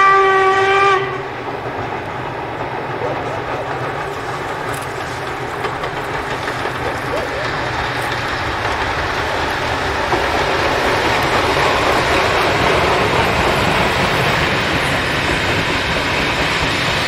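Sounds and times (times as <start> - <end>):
steam locomotive passing: 0.0 - 17.0
train coaches rumbling on rails: 0.0 - 17.0.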